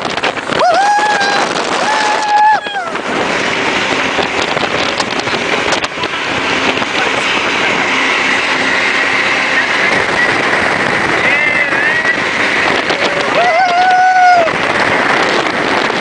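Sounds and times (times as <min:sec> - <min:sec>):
jet boat engine and water rush: 0:00.0 - 0:16.0.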